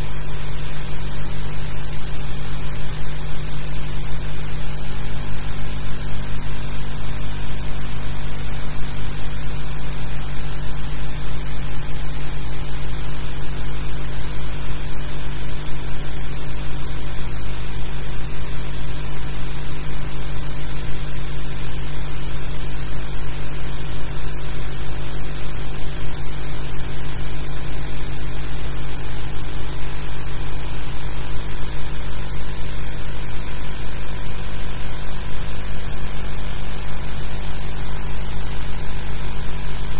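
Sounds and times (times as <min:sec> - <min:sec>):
low mains hum: 0:00.0 - 0:39.9.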